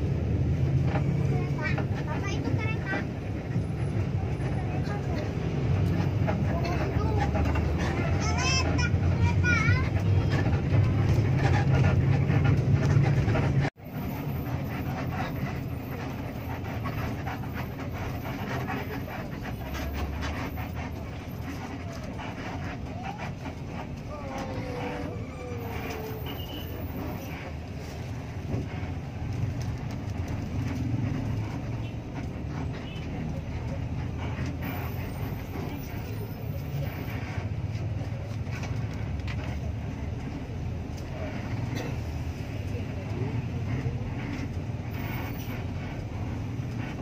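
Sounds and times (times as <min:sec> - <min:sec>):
bus engine rumble: 0:00.0 - 0:47.0.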